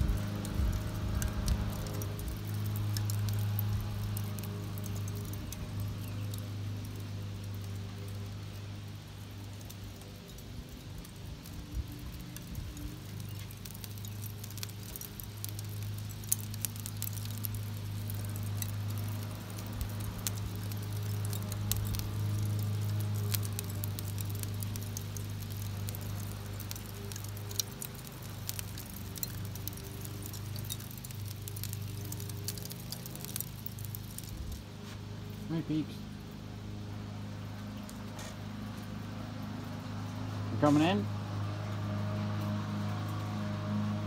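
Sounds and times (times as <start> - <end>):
charcoal crackling and popping: 0.0 - 44.0
steady low hum: 0.0 - 44.0.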